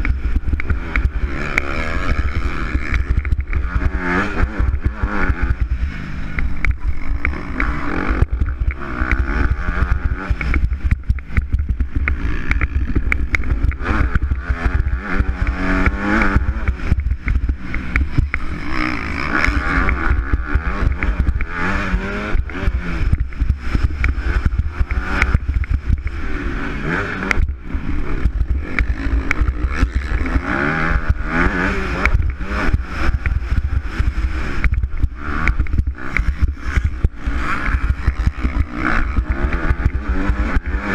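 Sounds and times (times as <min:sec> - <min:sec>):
motorbike engine revving: 0:00.0 - 0:40.9
wind rumble on microphone: 0:00.0 - 0:40.9.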